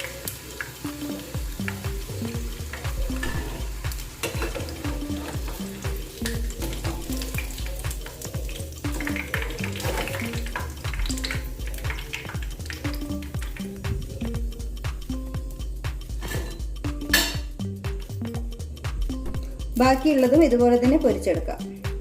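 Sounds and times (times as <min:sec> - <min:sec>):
chicken sizzling in hot oil: 0:00.0 - 0:18.6
background music with steady beat: 0:00.0 - 0:22.0.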